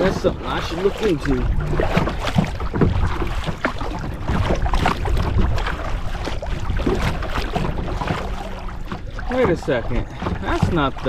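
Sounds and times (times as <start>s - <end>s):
water lapping against kayak: 0.0s - 11.0s
wind buffeting microphone: 0.0s - 11.0s.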